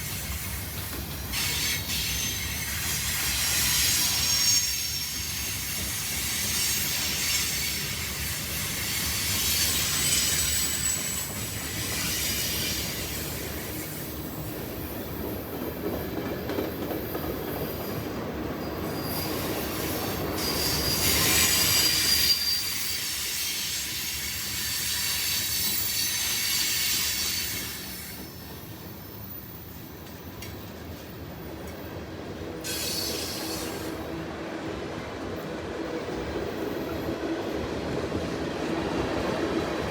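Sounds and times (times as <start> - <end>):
train wheels squealing on rail: 0.0 - 34.4
freight train cars rolling past: 0.0 - 39.9.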